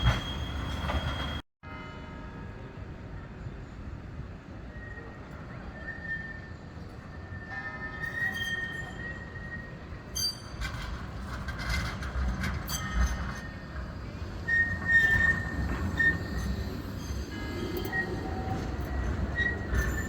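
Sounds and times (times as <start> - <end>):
tram wheels squealing: 0.0 - 1.4, 4.6 - 20.0
tram rumbling on track: 0.0 - 20.0.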